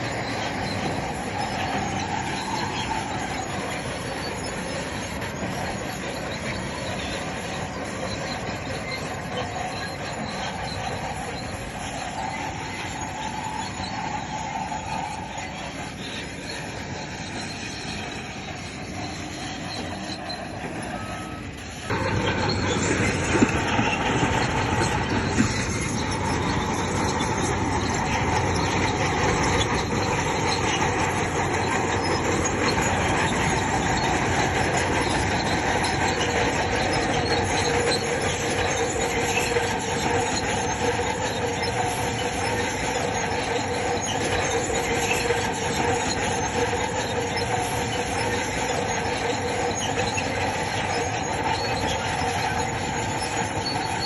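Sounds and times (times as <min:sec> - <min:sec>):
bulldozer engine running: 0:00.0 - 0:54.0
steel tracks squealing and clattering: 0:00.0 - 0:54.0.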